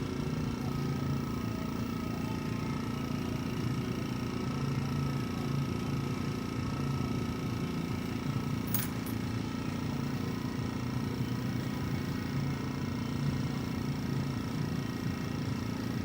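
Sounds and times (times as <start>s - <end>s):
air compressor humming: 0.0s - 16.0s.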